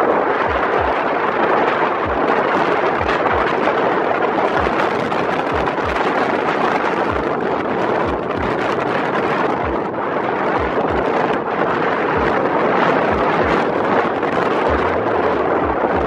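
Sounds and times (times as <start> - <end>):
low thumps: 0.0 - 1.2, 2.0 - 3.7, 4.5 - 11.5, 12.1 - 16.0
wind and road noise: 0.0 - 16.0.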